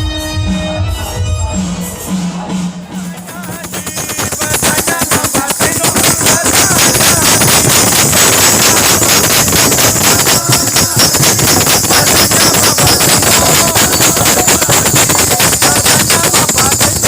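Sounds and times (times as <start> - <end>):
loud music with fast beat: 0.0 - 17.0.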